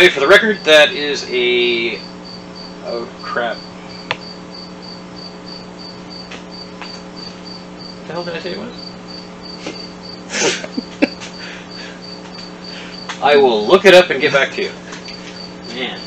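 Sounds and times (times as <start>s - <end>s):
cricket chirping: 0.0s - 16.0s
steady low hum: 0.0s - 16.0s.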